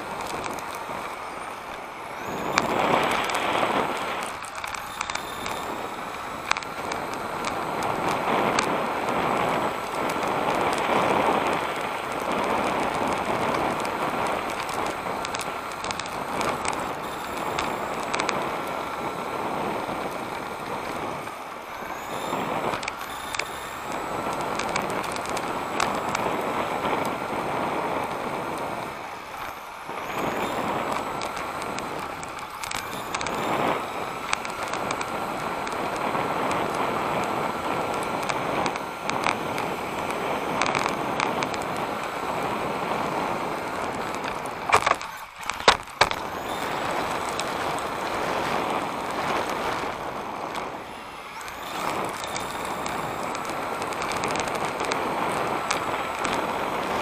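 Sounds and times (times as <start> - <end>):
chassis clicks: 0.0 - 57.0
drivetrain and tyres hissing: 0.0 - 57.0
electric motor and gear whine: 0.0 - 57.0.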